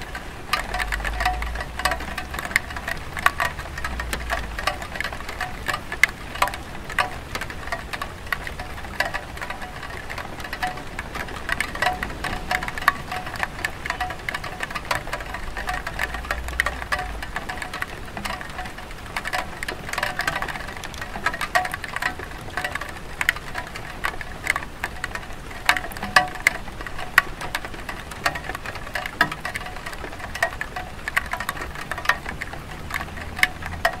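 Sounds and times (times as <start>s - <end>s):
rain drops tapping on tile roof: 0.0s - 34.0s
steady hiss of rain: 0.0s - 34.0s.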